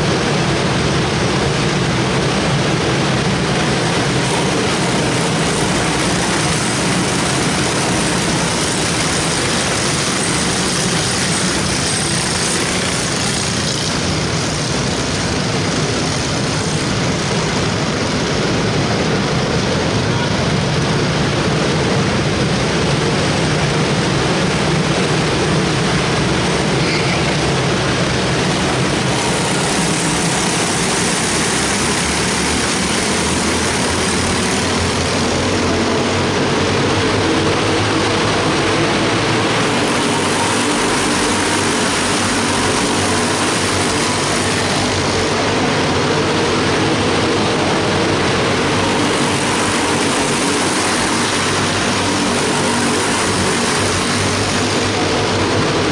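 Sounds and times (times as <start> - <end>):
small race car engines buzzing: 0.0 - 55.9.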